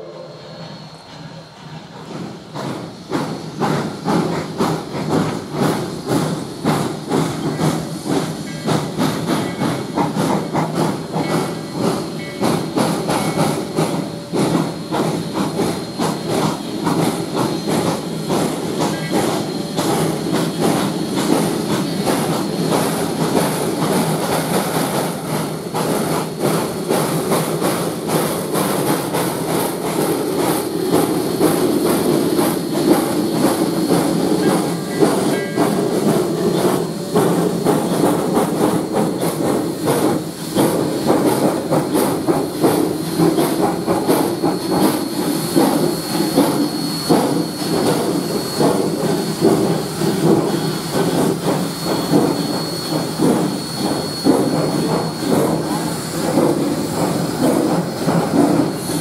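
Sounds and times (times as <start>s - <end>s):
hissing steam: 0.0s - 59.0s
steam locomotive exhaust chuffs: 0.0s - 59.0s.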